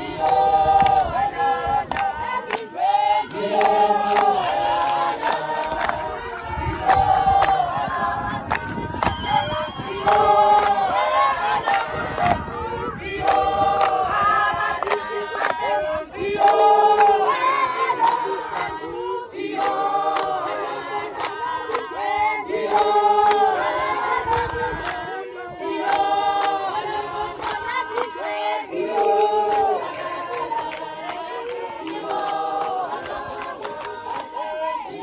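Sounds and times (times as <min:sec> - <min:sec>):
crowd singing unaccompanied: 0:00.0 - 0:35.0.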